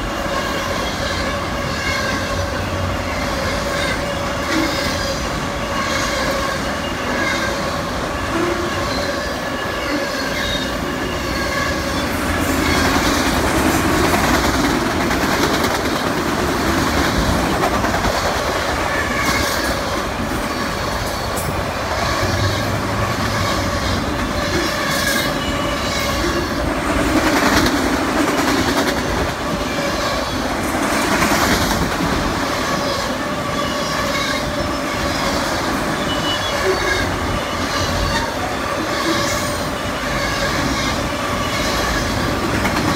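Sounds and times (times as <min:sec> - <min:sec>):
freight cars rumbling: 0:00.0 - 0:42.9
wheels clacking over rail joints: 0:00.0 - 0:42.9
wheels squealing on rails: 0:00.0 - 0:42.9.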